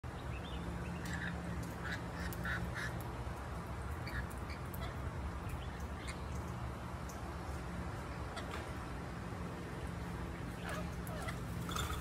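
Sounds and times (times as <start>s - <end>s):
birds chirping: 0.0s - 8.9s, 10.0s - 12.0s.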